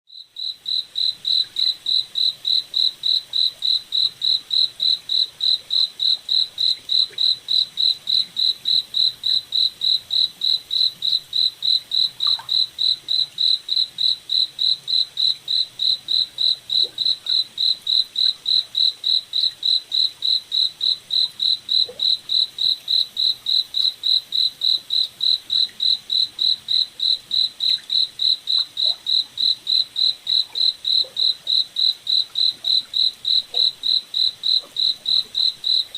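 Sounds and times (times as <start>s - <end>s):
cricket chirping: 0.1s - 35.9s.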